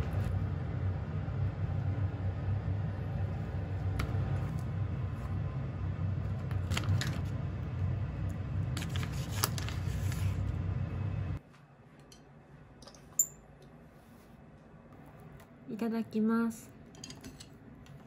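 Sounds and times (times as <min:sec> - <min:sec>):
range hood fan hum: 0:00.0 - 0:18.0.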